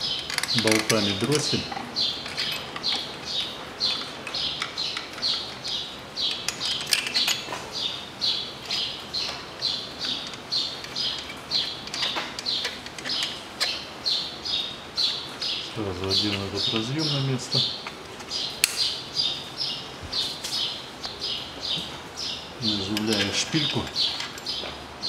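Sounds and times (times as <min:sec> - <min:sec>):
bird chirping: 0:00.0 - 0:25.0.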